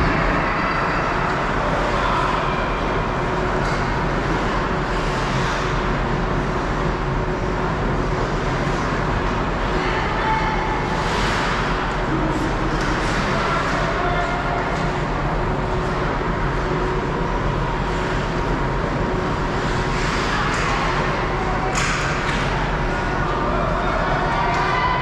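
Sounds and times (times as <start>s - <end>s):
arena noise: 0.0s - 25.0s.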